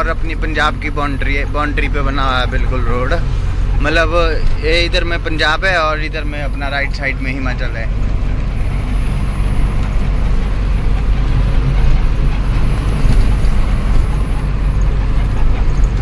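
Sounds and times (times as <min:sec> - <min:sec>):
diesel engine drone: 0:00.0 - 0:16.0
road noise: 0:00.0 - 0:16.0.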